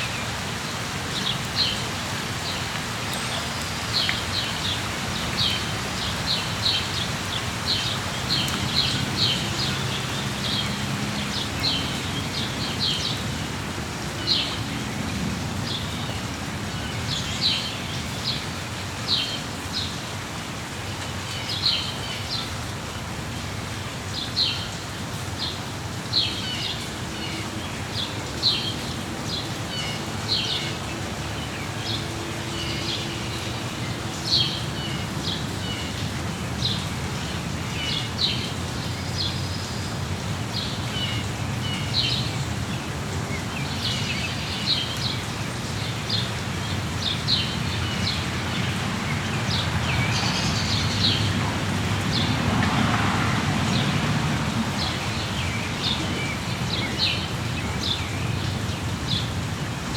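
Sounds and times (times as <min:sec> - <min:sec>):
falling rain: 0:00.0 - 0:59.9.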